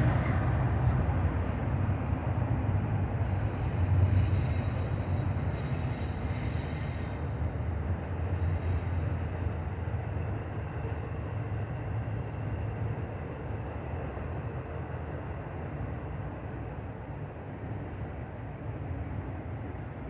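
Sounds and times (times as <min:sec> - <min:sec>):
passing train rumble: 0:00.0 - 0:20.0.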